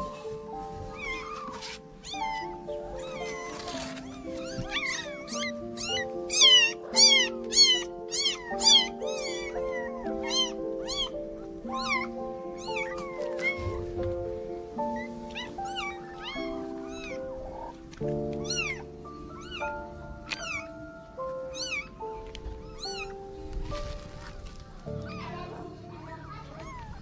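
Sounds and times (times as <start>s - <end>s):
background music: 0.0s - 27.0s
kitten meowing: 0.9s - 14.2s, 14.9s - 20.8s, 21.4s - 24.3s, 26.3s - 27.0s.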